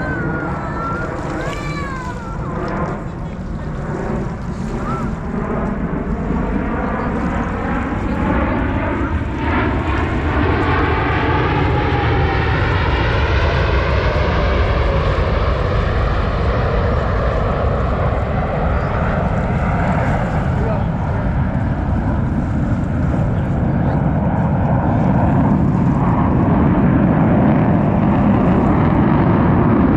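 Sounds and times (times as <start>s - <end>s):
jet flyover roar: 0.0s - 29.9s.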